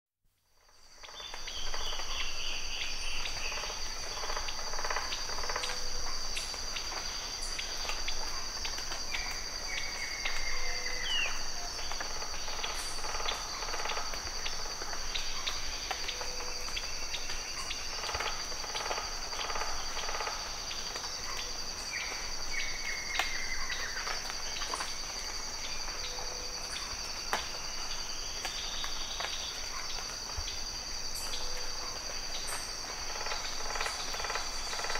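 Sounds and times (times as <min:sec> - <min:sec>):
cicadas droning: 0:00.4 - 0:34.9.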